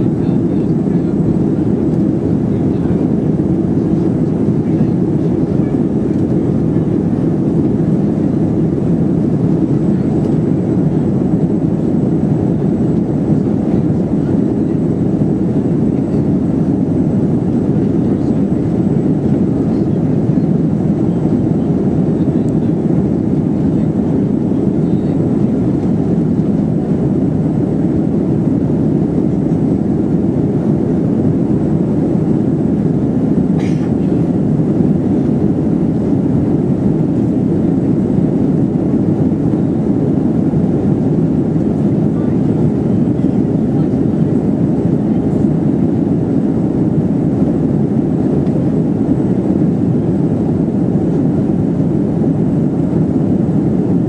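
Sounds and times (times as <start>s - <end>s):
airplane cabin low rumble: 0.0s - 54.0s.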